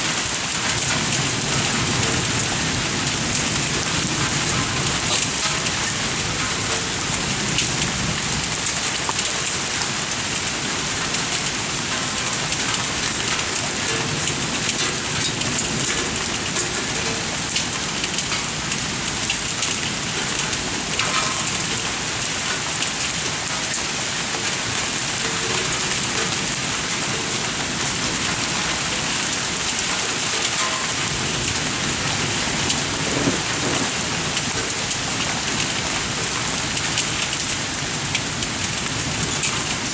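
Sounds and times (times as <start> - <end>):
hailstones ticking on surfaces: 0.0 - 39.9
heavy rain pouring: 0.0 - 39.9.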